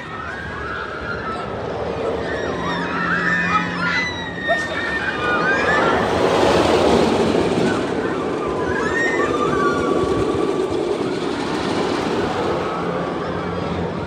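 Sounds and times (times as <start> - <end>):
roller coaster rumbling on track: 0.0 - 14.0.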